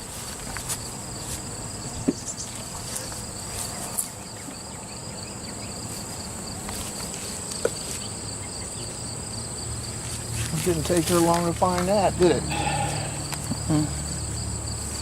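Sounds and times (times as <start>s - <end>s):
high-pitched insect chorus: 0.0s - 15.0s
honey bees buzzing: 0.0s - 15.0s.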